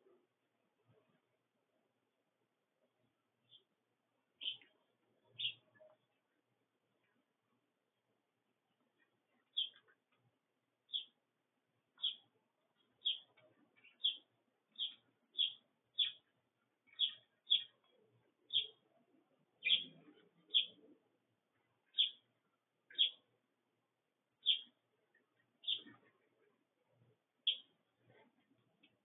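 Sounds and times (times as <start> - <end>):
sparrows chirping: 3.4 - 7.4, 8.7 - 23.4, 24.3 - 29.0.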